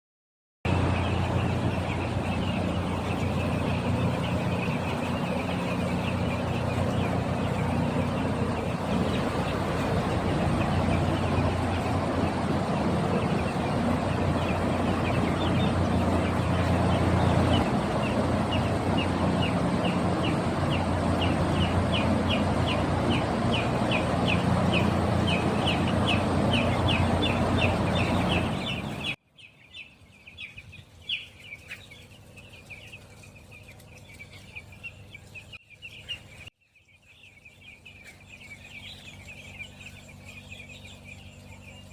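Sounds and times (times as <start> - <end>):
chicks peeping: 0.7 - 41.9
steady low hum: 0.7 - 41.9.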